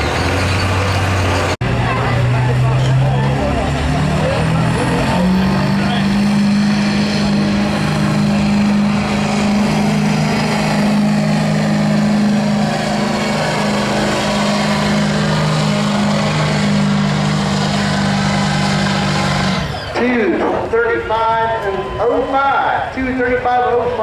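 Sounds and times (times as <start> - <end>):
diesel truck engine at high revs: 0.0 - 20.9.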